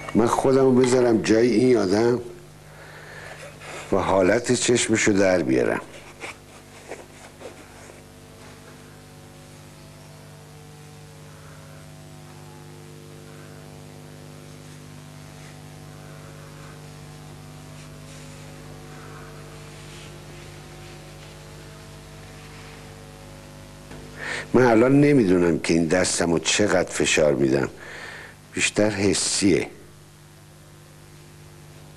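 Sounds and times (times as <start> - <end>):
electrical hum: 0.0 - 31.9.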